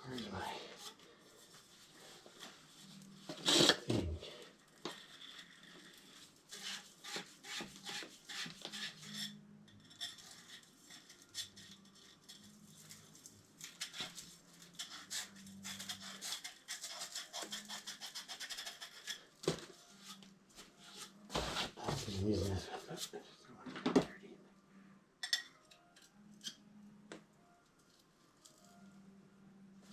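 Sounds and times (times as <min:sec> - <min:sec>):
hands working with tools and pipe: 0:00.0 - 0:24.1, 0:25.2 - 0:28.8.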